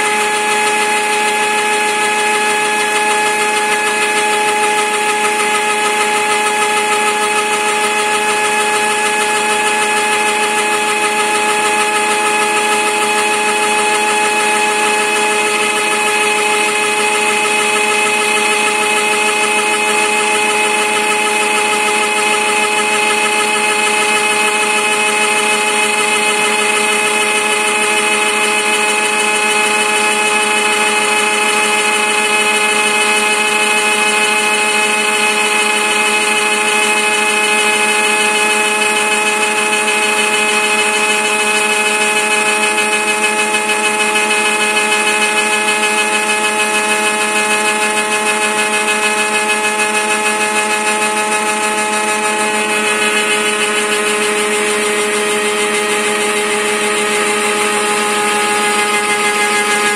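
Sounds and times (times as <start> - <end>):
machine spindle whine: 0.0 - 59.9.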